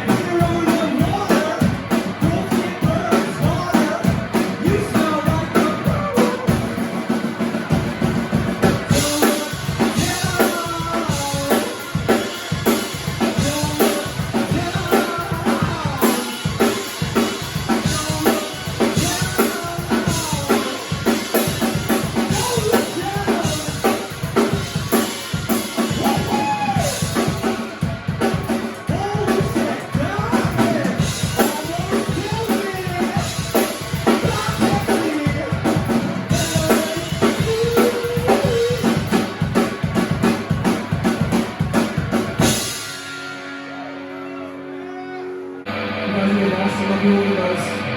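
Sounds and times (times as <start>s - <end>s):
bass drum and snare beat: 0.0s - 42.7s
band playing live: 0.0s - 47.9s.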